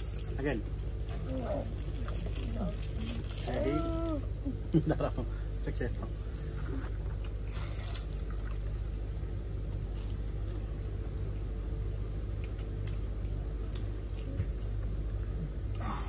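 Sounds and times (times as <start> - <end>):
people chewing crispy chicken: 0.0 - 4.7, 6.2 - 16.0
steady low hum: 0.0 - 16.0.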